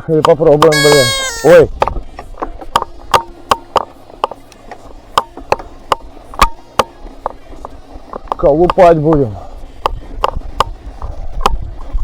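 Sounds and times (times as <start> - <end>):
bicycle clattering over rough ground: 1.7 - 12.0.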